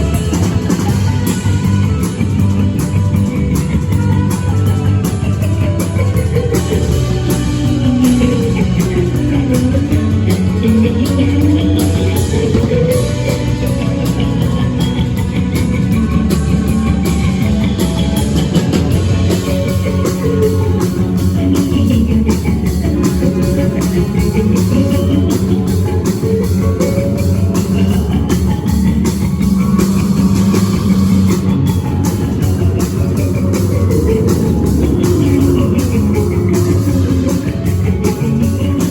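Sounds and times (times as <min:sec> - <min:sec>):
gliding pitch line: 0:00.0 - 0:38.9
live rock band playing: 0:00.0 - 0:38.9.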